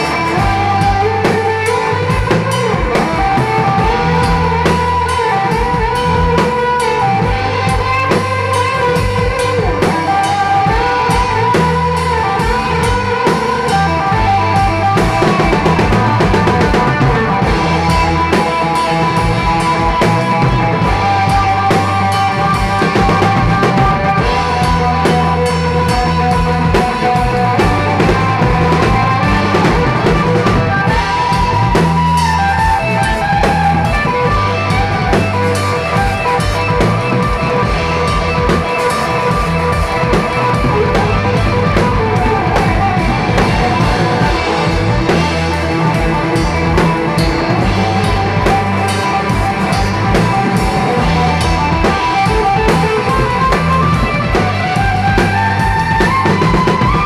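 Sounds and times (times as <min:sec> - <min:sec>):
drum kit with cymbals: 0:00.0 - 0:57.0
electric guitar: 0:00.0 - 0:57.0
low bass notes: 0:00.0 - 0:57.0.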